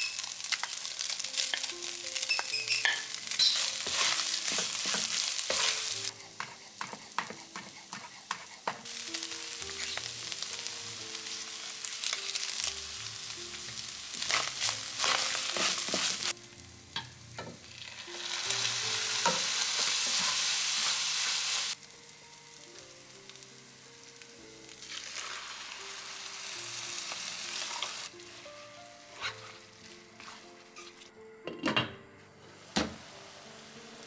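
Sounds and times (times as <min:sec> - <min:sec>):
food sizzling in a frying pan: 0:00.0 - 0:30.4
quiet background music: 0:00.0 - 0:34.0.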